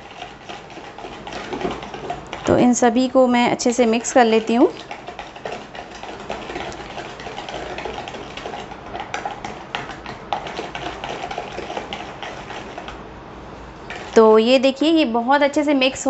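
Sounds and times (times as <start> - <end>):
liquid sloshing: 0.0 - 13.1, 13.7 - 14.3.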